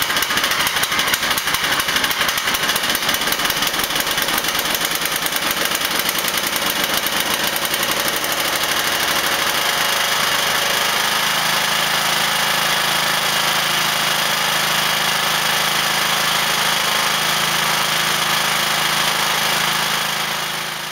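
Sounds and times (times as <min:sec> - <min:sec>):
lawn tractor engine running: 0:00.0 - 0:20.9.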